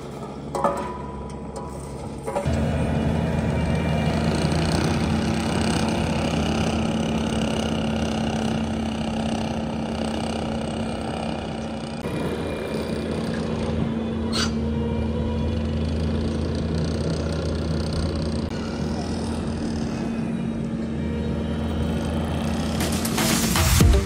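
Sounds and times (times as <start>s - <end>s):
skid steer engine running: 0.0s - 24.0s.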